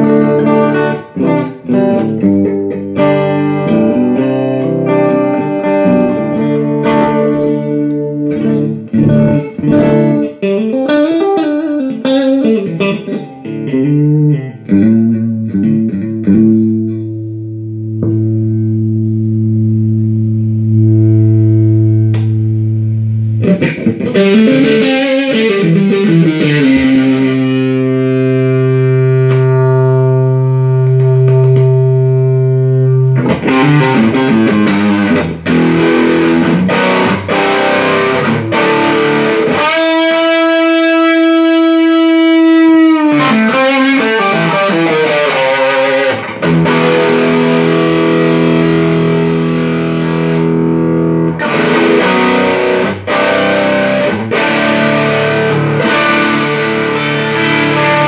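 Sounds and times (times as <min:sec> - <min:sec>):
electric guitar through amp: 0:00.0 - 0:58.0.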